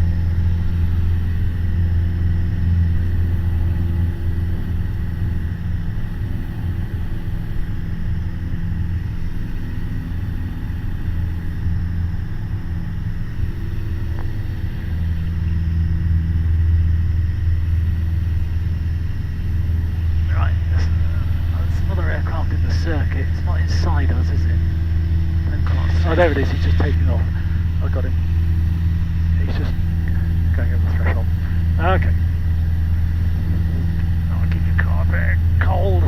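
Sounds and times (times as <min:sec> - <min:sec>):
aircraft engine and propeller droning: 0:00.0 - 0:36.0.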